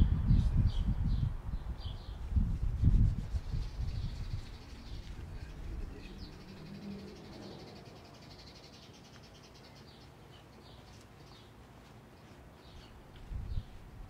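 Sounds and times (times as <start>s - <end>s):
small birds trilling and chirping: 0.4s - 13.9s.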